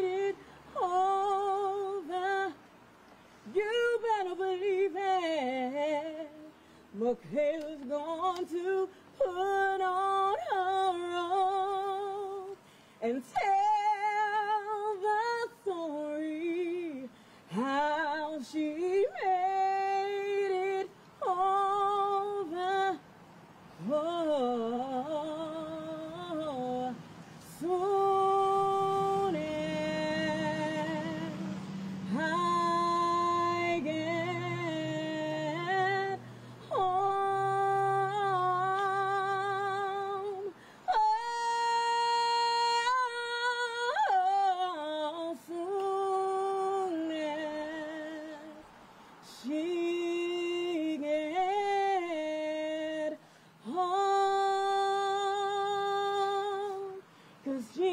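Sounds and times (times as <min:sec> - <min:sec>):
woman singing gospel unaccompanied: 0:00.0 - 0:57.9.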